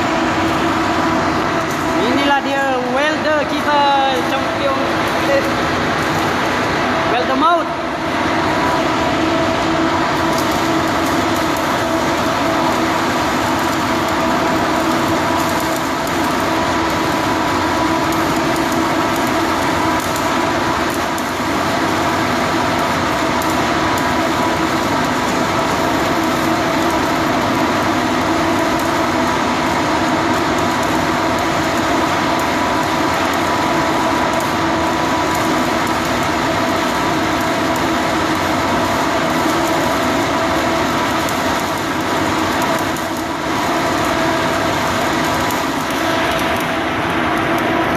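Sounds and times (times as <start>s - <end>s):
machine drone with hiss: 0.0s - 47.9s.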